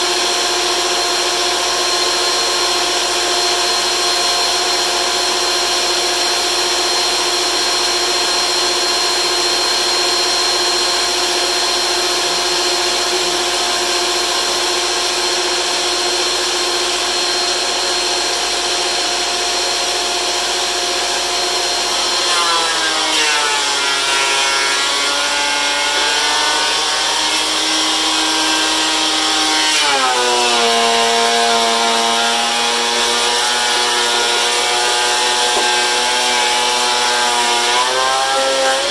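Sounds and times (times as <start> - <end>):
planer motor whine: 0.0 - 38.9
wood cutting noise: 0.0 - 38.9.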